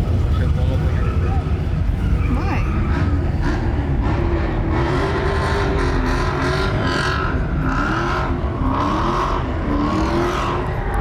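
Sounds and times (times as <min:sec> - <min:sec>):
vehicle engines revving: 0:00.0 - 0:11.0.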